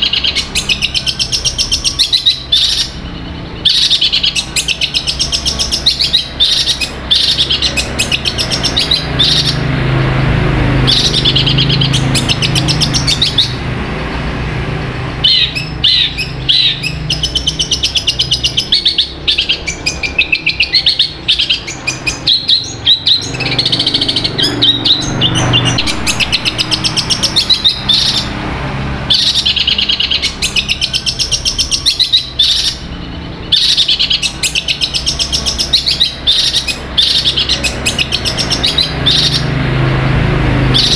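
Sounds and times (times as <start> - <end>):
bird singing rapid high notes: 0.0 - 40.9.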